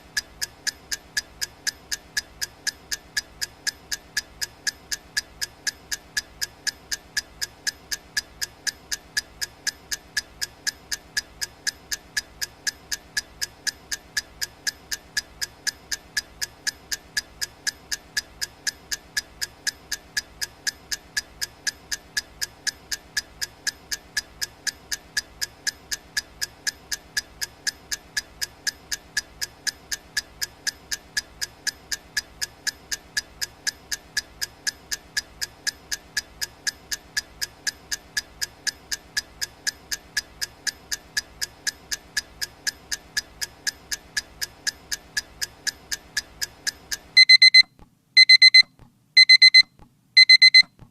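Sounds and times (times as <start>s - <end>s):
clock ticking fast: 0.0s - 50.7s.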